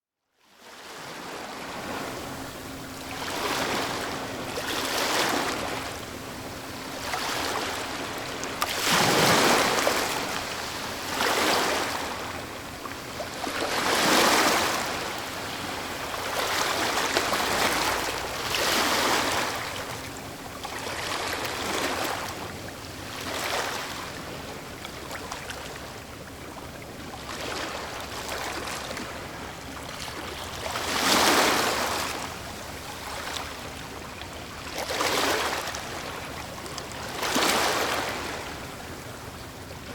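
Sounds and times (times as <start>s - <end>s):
sea waves breaking: 0.6s - 39.9s.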